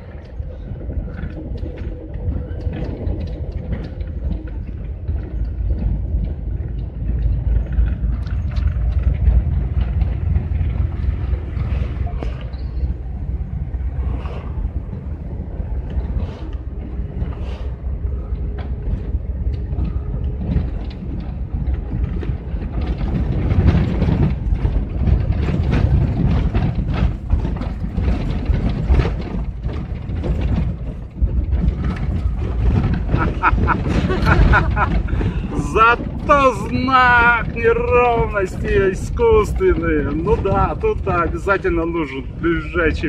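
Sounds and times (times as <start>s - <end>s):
engine and tyre rumble: 0.0s - 43.0s
knocks and rattles over bumps: 0.0s - 43.0s.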